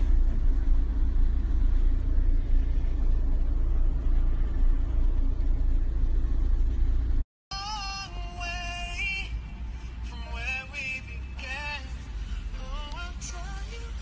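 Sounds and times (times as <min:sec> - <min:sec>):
van engine rumbling: 0:00.0 - 0:14.0.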